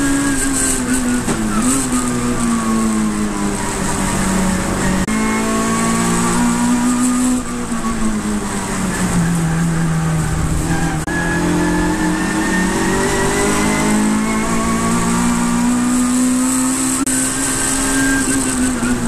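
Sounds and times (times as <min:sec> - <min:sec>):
race car engine at high revs: 0:00.0 - 0:19.0
road and wind noise: 0:00.0 - 0:19.0.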